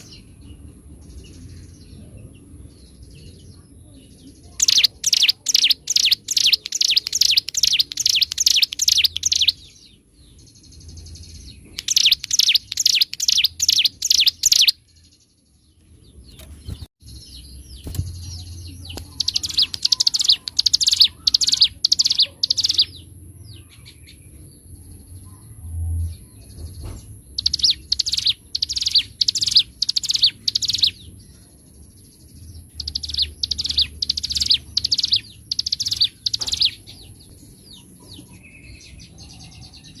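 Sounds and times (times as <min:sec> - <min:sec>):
bird rapid high chirping: 0:00.0 - 0:15.2, 0:16.2 - 0:25.1, 0:26.7 - 0:40.0.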